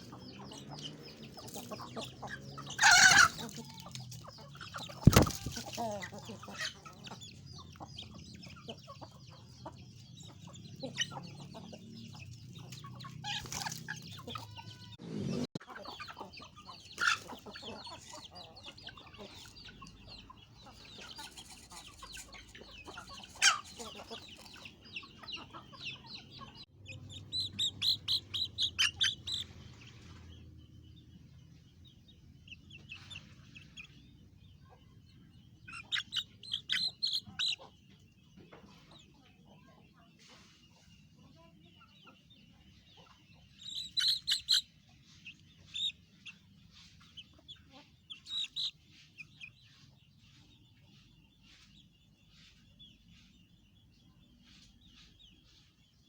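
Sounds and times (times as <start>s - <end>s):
chickens clucking and calling: 0.0s - 56.0s.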